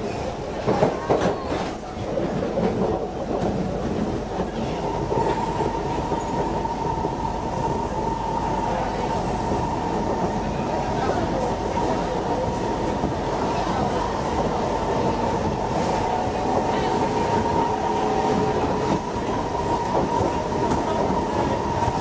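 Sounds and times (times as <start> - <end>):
metro train wheels rumbling: 0.0 - 22.0.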